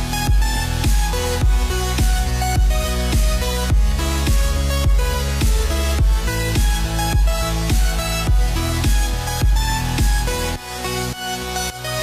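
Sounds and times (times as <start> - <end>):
electronic dance music: 0.0 - 12.0
heavy bass line: 0.0 - 12.0.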